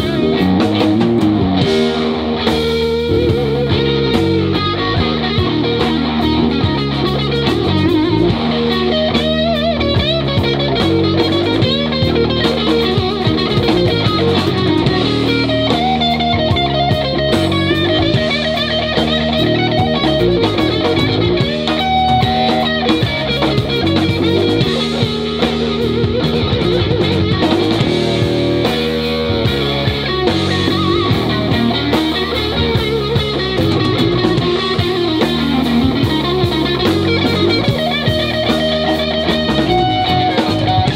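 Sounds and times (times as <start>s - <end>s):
drum kit: 0.0s - 40.9s
electric bass: 0.0s - 40.9s
electric guitar lead: 0.0s - 40.9s.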